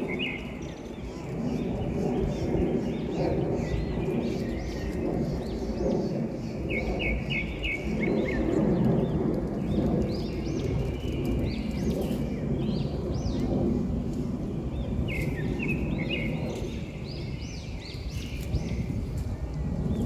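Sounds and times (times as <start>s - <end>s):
birds chirping: 0.0s - 13.8s, 14.4s - 20.0s.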